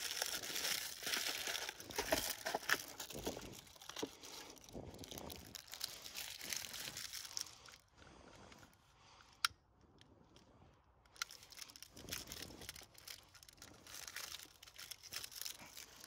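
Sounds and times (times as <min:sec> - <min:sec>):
crinkling rustling handling noise: 0:00.0 - 0:09.2, 0:11.1 - 0:16.0.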